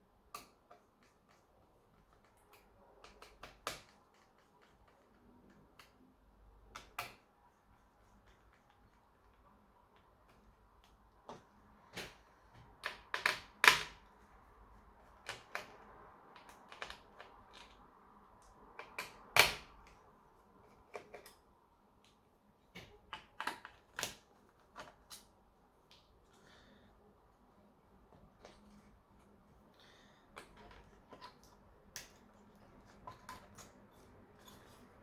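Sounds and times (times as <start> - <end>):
laptop parts and tools clicking: 0.2 - 26.4, 30.2 - 35.0.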